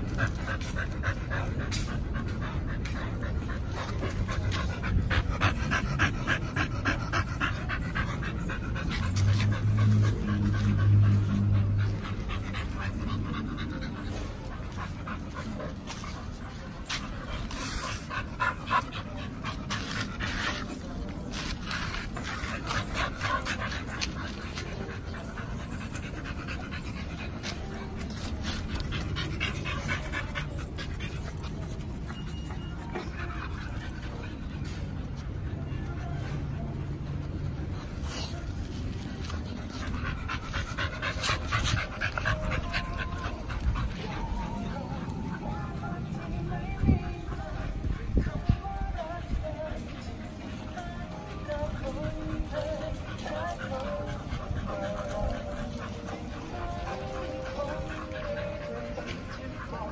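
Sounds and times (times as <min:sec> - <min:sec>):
dogs panting: 0:00.0 - 0:59.9.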